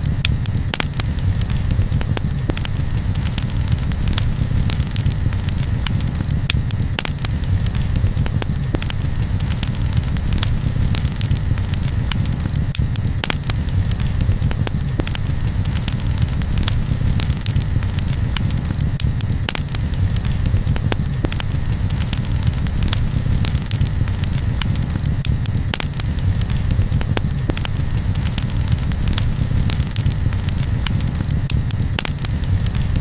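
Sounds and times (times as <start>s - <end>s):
campfire crackling: 0.0s - 33.0s
low rumble: 0.0s - 33.0s.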